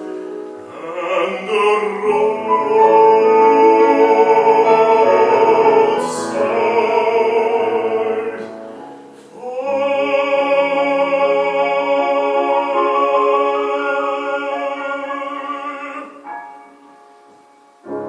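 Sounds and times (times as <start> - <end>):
musical accompaniment: 0.0 - 18.0
operatic bass singing: 0.6 - 16.2.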